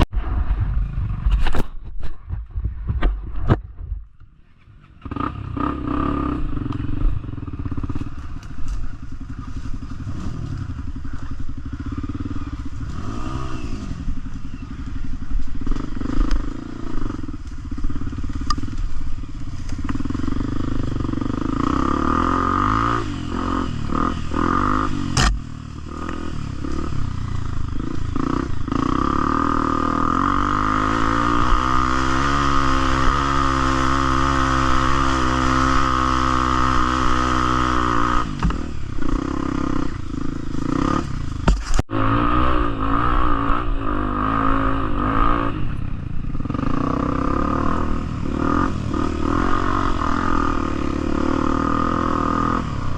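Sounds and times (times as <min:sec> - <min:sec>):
motorcycle engine revving: 0:04.7 - 0:52.9.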